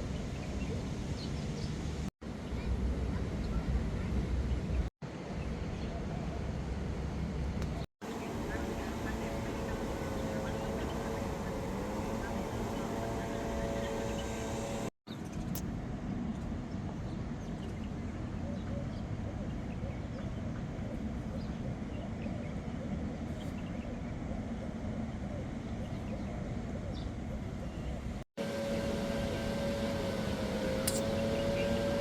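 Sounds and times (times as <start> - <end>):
outdoor background rumble: 0.0 - 32.0.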